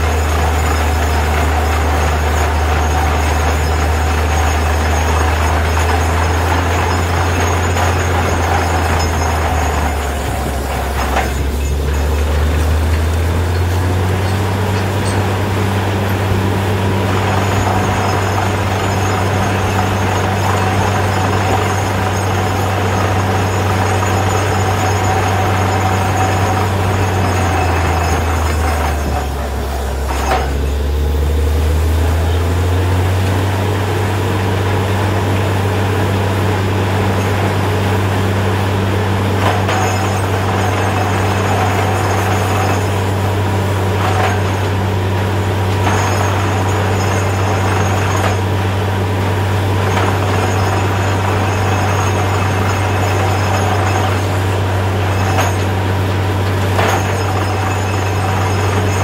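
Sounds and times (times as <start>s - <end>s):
drilling rig engine drone: 0.0s - 59.0s.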